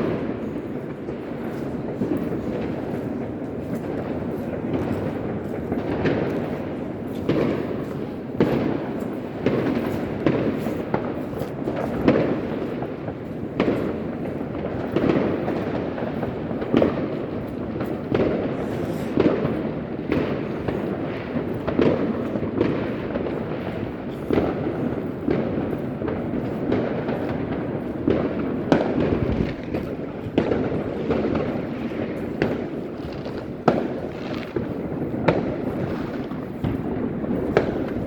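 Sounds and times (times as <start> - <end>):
fireworks bangs: 0.0 - 38.0.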